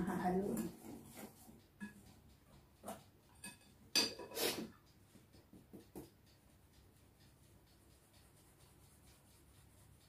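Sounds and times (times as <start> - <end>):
utensil stirring batter: 0.0 - 10.0.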